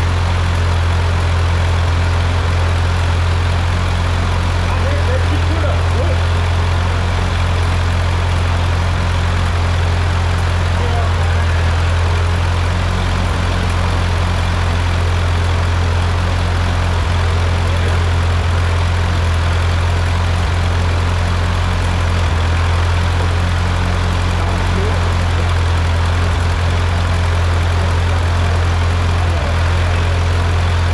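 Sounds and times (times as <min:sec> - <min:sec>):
tractor engine idling: 0:00.0 - 0:30.9.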